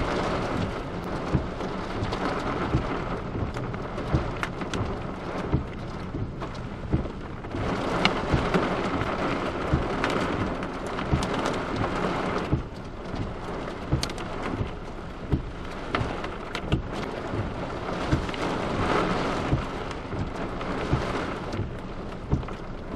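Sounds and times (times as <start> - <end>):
hailstones hitting: 0.0 - 22.8
heavy rain on a car: 0.0 - 22.9.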